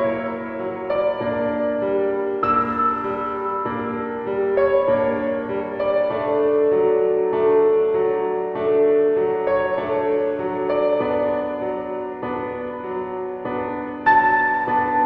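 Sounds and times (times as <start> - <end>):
slow keyboard music: 0.0 - 15.0.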